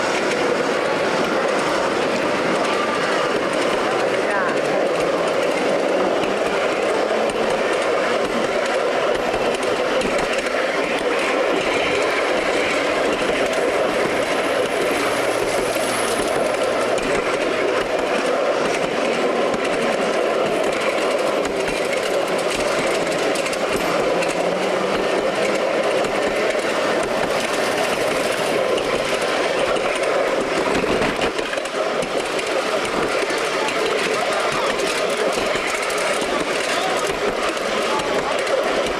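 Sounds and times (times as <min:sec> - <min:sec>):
miniature train wheels on rail: 0:00.0 - 0:38.9.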